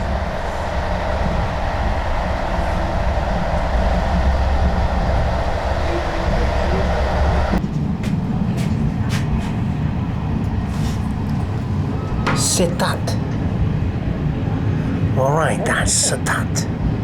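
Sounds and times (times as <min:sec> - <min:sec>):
train rumbling with hiss: 0:00.0 - 0:17.0.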